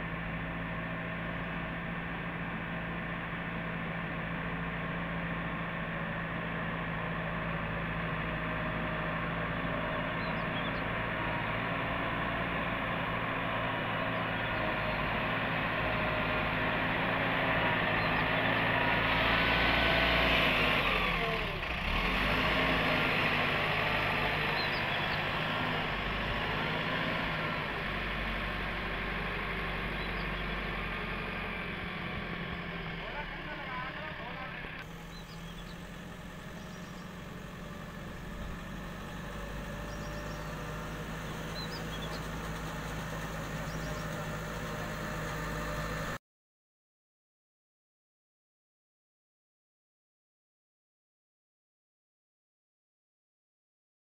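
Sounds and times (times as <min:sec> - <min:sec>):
diesel engine under load: 0:00.0 - 0:46.2.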